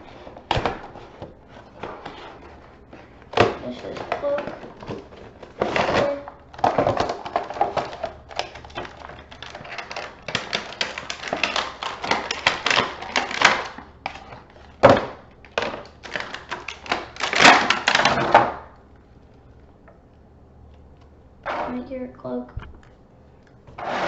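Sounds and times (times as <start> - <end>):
plastic and cardboard crinkling: 0.0 - 21.8.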